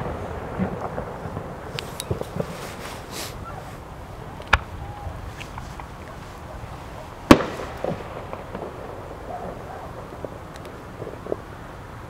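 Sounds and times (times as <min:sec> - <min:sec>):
firework bang: 0:00.0 - 0:11.5
faint pops and crackles: 0:00.0 - 0:12.0.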